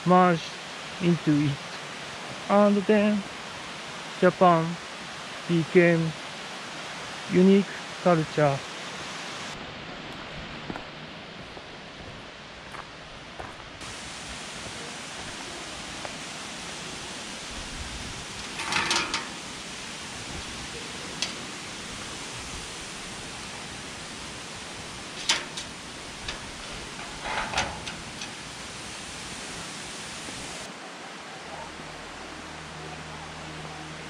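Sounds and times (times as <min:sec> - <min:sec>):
waterfall rushing: 0:00.0 - 0:09.7, 0:13.4 - 0:34.0.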